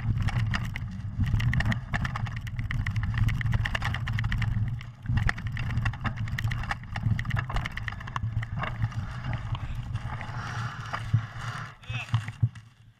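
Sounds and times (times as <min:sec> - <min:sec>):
low rumble: 0:00.0 - 0:12.5
mountain bike rattling: 0:00.0 - 0:12.9.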